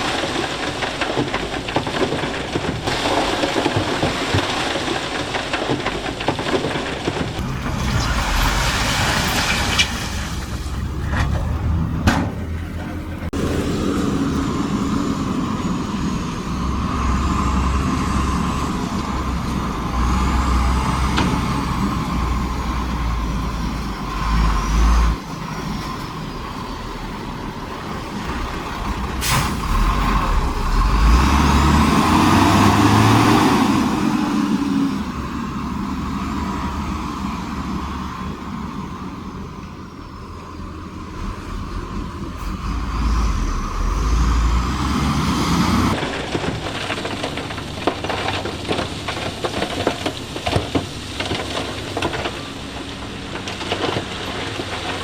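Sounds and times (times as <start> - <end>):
heavy machinery diesel engines: 0.0 - 55.0.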